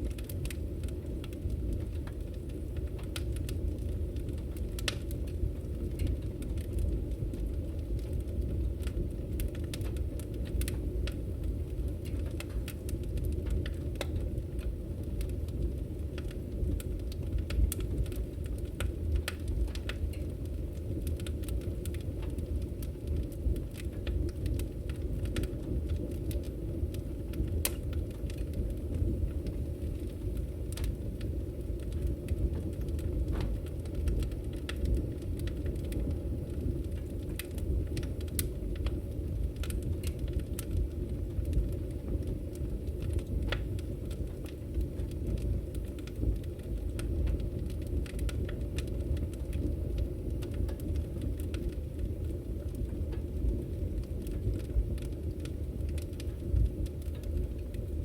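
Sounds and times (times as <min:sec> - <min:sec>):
firewood crackling and popping: 0:00.0 - 0:58.0
flames rumbling: 0:00.0 - 0:58.0.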